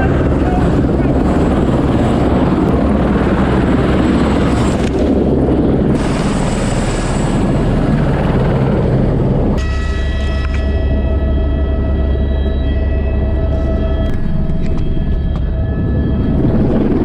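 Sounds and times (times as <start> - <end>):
helicopter rotor and engine drone: 0.0 - 17.0.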